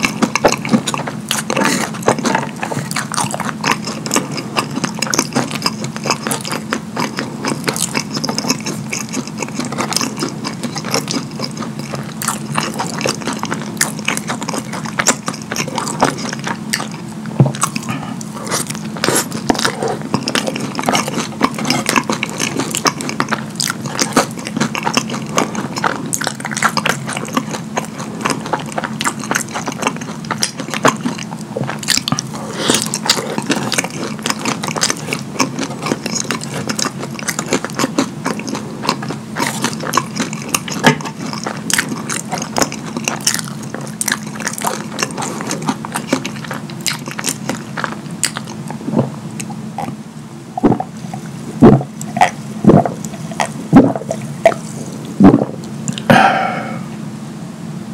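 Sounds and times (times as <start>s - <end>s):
wet chewing and mouth smacking: 0.0s - 50.0s, 50.6s - 56.8s.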